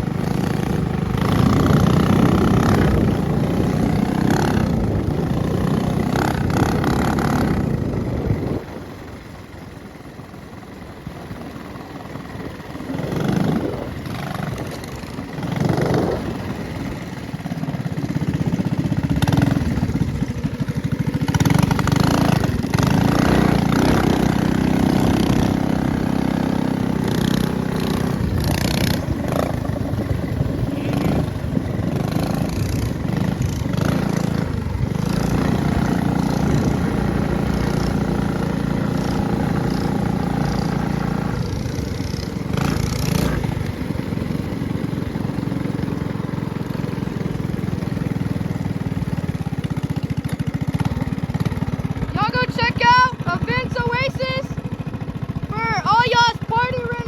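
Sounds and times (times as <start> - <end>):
small motorbike engine running: 0.0 - 57.0.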